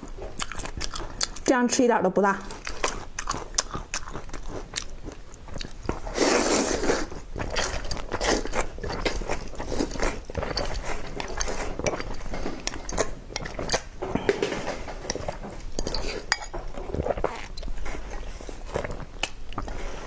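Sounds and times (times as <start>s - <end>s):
chewing and biting: 0.0s - 1.5s, 2.4s - 14.0s, 15.0s - 20.0s.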